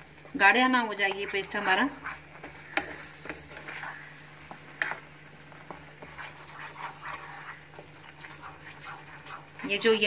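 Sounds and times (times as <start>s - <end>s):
low steady hum: 0.0s - 10.0s
wooden spatula scraping thick paste: 0.6s - 10.0s.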